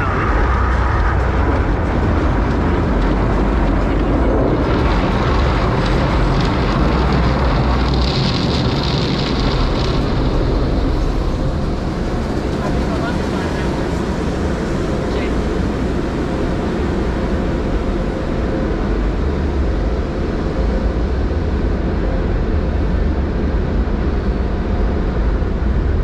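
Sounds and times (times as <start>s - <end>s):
car wash rushing and rumble: 0.0s - 26.0s.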